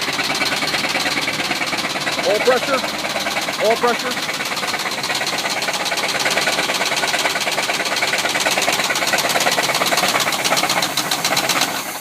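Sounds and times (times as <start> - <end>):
engine idling with rod knock: 0.0 - 12.0.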